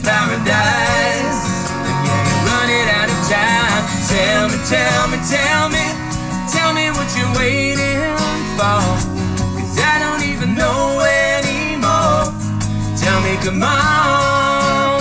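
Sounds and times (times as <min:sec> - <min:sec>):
acoustic guitars strumming: 0:00.0 - 0:15.0
man singing: 0:00.0 - 0:15.0.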